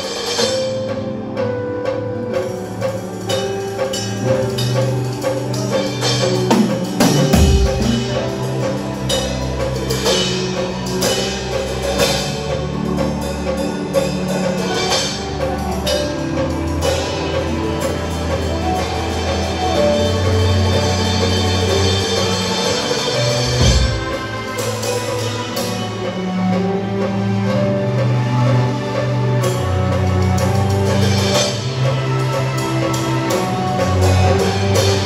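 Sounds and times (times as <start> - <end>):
bass and keyboard music: 0.0 - 35.0
drum kit playing: 0.0 - 35.0.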